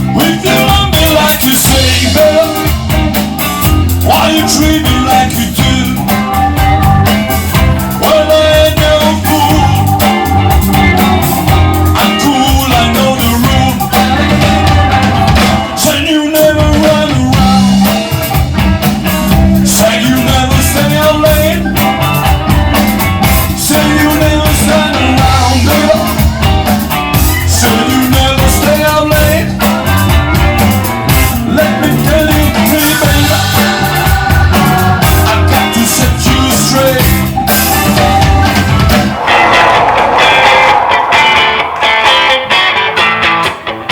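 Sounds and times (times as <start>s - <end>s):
person singing: 0.0s - 42.9s
blues-rock band playing: 0.0s - 43.9s
drum kit: 0.0s - 43.9s
guitar: 0.0s - 43.9s.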